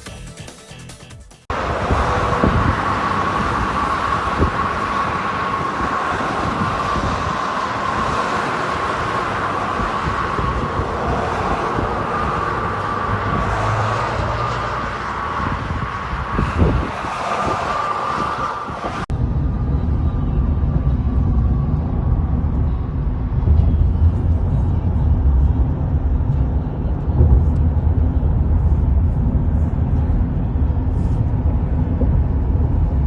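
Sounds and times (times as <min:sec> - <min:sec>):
strong wind rushing: 0:01.5 - 0:33.0
wind buffeting microphone: 0:01.5 - 0:33.0.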